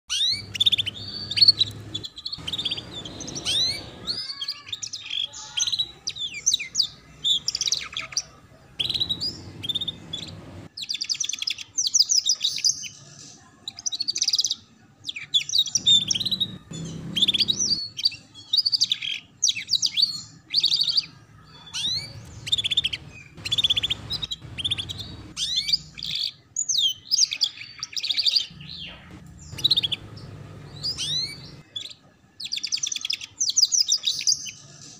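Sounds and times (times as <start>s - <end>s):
canary singing: 0.1s - 34.9s.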